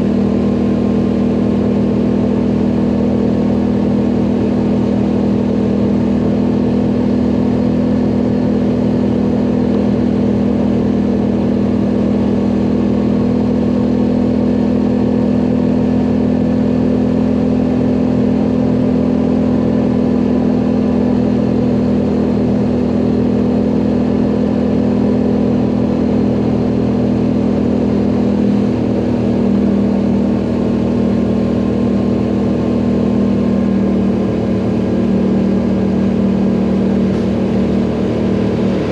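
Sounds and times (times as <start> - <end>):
quad bike engine under load: 0.0 - 38.9.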